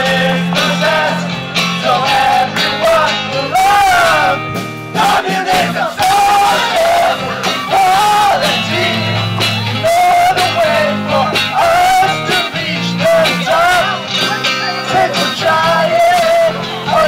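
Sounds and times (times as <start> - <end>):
live rock band playing: 0.0 - 17.0
men singing: 0.0 - 17.0.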